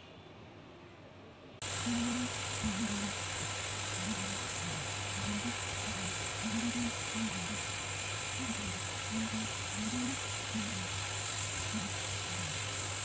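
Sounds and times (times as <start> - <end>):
low fan hum: 0.0 - 13.0
hot-air gun hissing: 1.6 - 13.0.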